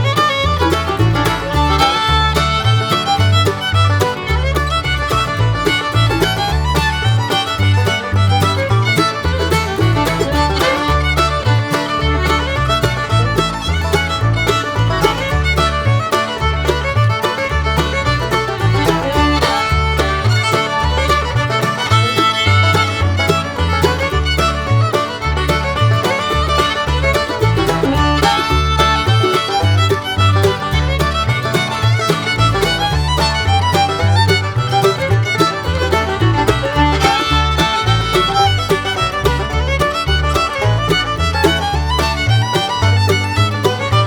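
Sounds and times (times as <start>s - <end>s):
music with rhythmic bass line: 0.0s - 44.0s.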